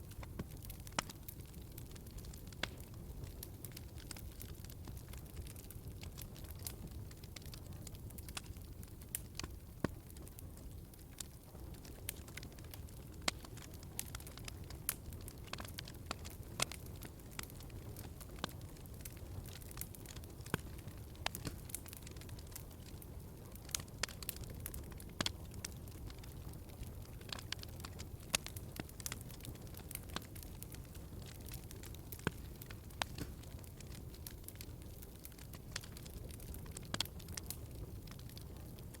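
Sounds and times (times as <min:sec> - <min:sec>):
low rumble of burning logs: 0:00.0 - 0:39.0
wood fire crackling and popping: 0:00.0 - 0:39.0.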